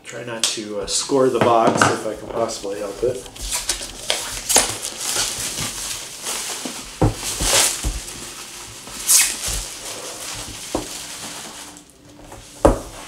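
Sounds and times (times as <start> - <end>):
plastic bag crinkling: 2.0 - 13.0.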